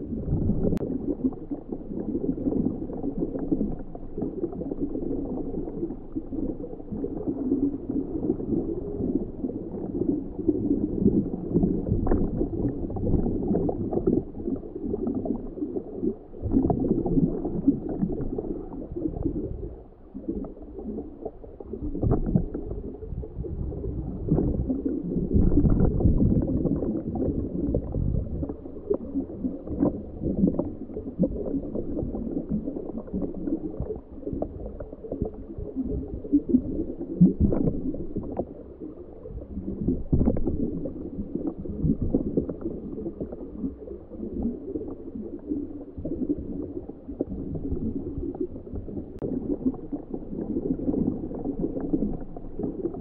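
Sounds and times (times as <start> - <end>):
water churning and gurgling: 0.0 - 53.0.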